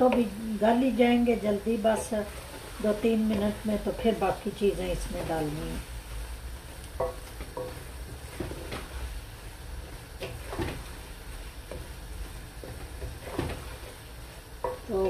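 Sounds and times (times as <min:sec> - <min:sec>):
low sizzle: 0:00.0 - 0:15.0
wooden spatula scraping a pot: 0:00.0 - 0:15.0.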